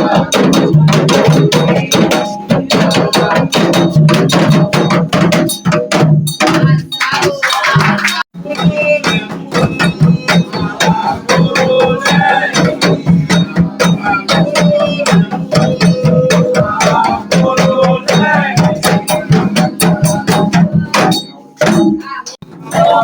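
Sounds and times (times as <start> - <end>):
hand drums playing fast beat: 0.0 - 23.0.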